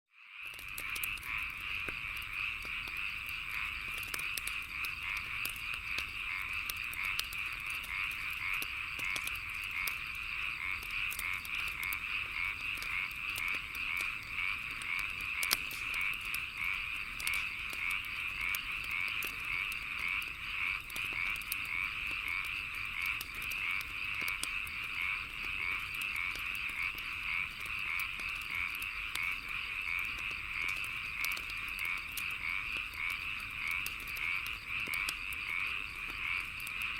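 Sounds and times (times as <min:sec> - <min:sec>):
bonfire crackling and popping: 0:00.2 - 0:36.9
frog chorus trilling: 0:00.2 - 0:36.9.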